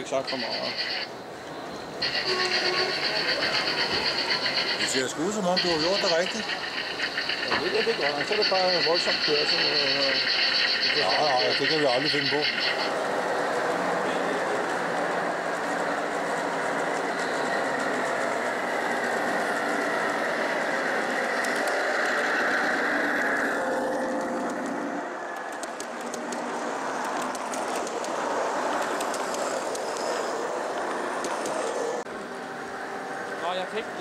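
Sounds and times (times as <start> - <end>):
model train running: 0.0 - 34.0.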